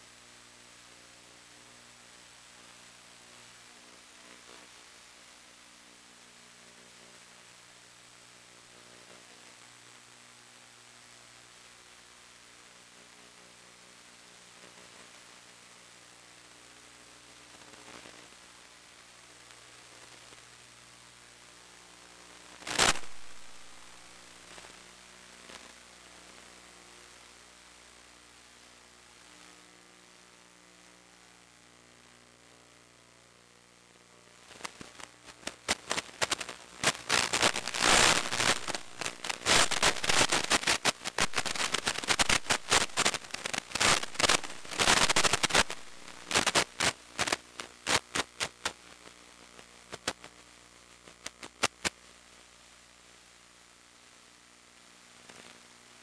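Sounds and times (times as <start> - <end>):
electrical hum with hiss: 0.0 - 56.0
radio static crackle: 0.0 - 56.0.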